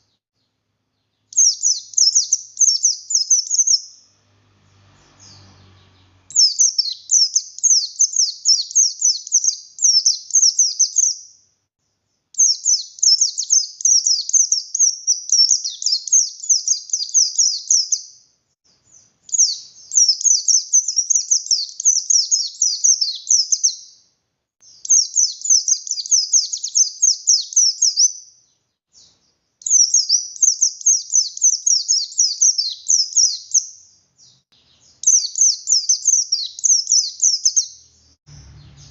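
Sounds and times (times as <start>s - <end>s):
bird warbling high-pitched song: 1.1s - 4.1s, 5.2s - 11.4s, 12.4s - 18.2s, 18.9s - 24.0s, 24.6s - 28.4s, 29.0s - 38.9s.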